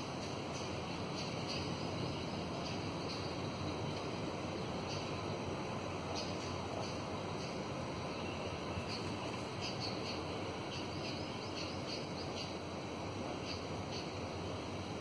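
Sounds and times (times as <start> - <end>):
steady background noise: 0.0 - 15.0
small birds chirping: 0.2 - 14.8.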